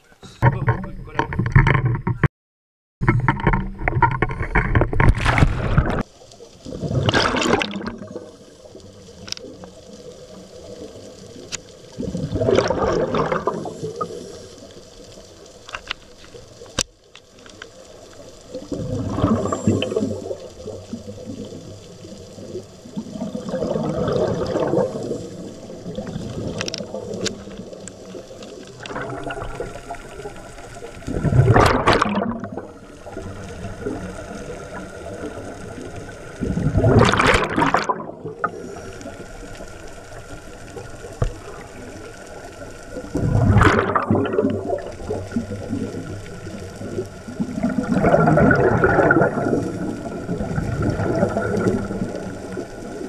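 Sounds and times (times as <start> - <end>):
underwater noise: 0.0 - 2.3, 3.0 - 53.0
scuba exhaled bubbles gurgling: 3.3 - 53.0.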